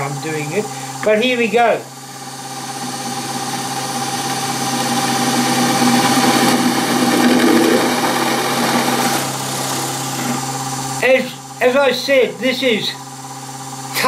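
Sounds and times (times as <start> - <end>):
drill bit cutting steel: 0.0 - 11.7
drill press motor hum: 0.0 - 14.0.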